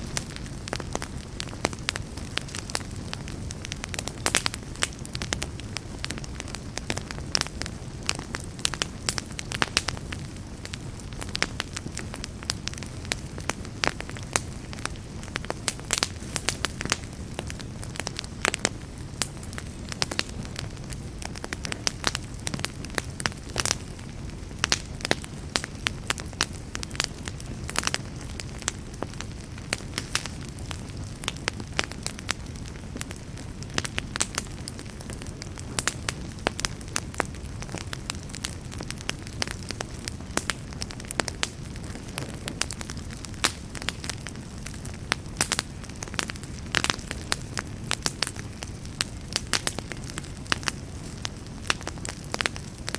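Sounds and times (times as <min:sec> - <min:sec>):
burning wood crackling and popping: 0:00.0 - 0:52.9
fireplace fire rumbling: 0:00.0 - 0:52.9.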